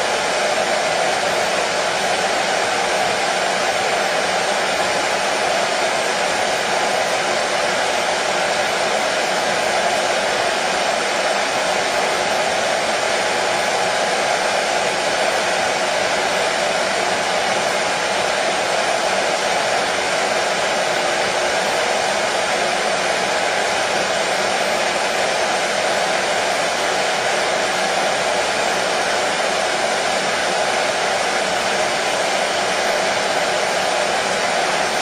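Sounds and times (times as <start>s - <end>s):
hair dryer running: 0.0s - 35.0s.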